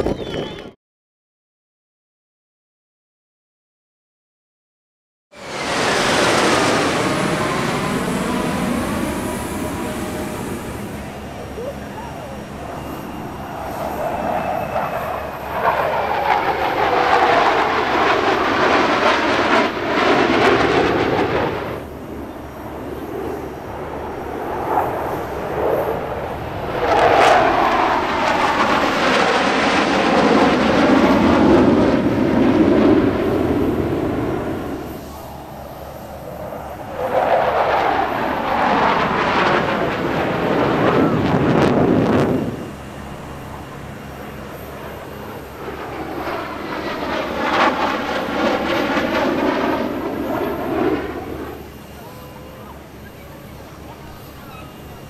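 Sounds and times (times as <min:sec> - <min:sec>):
jet fighters flying by: 0:05.3 - 0:55.0.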